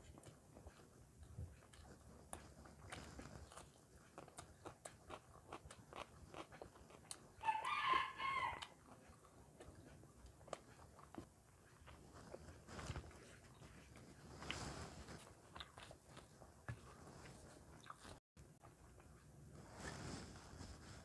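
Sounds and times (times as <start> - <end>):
crunchy chewing: 0.0 - 19.3.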